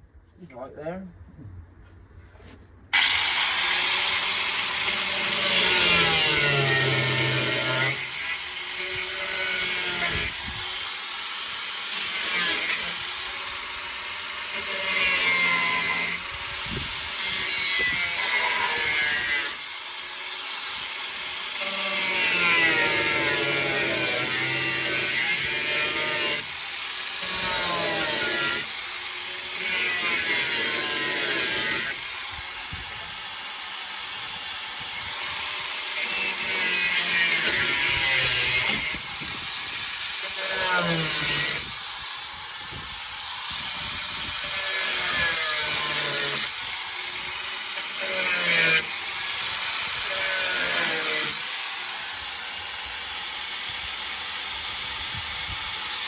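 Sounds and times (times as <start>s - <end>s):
angle grinder cutting sheet steel: 3.0s - 56.0s.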